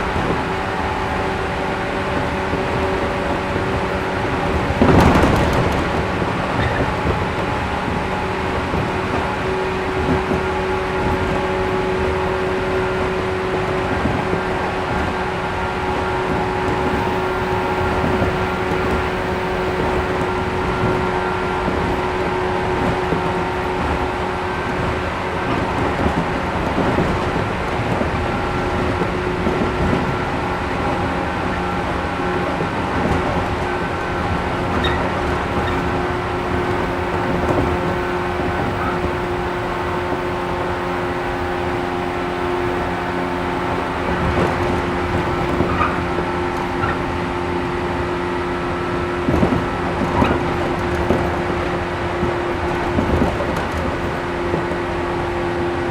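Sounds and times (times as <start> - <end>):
train interior rumbling hum: 0.0 - 55.9.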